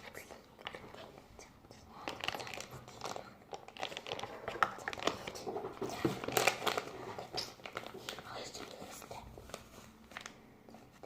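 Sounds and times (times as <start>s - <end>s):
crinkling: 0.0s - 11.0s.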